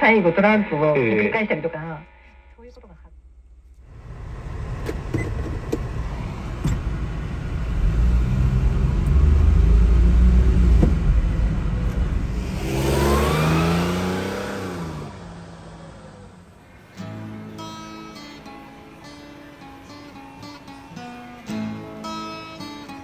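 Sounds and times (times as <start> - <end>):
small truck engine accelerating: 3.8 - 23.0.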